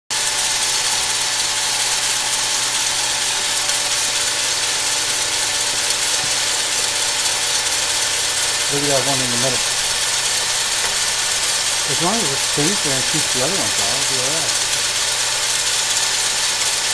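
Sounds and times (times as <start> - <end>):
paddle rattling coffee beans: 2.2 - 16.9.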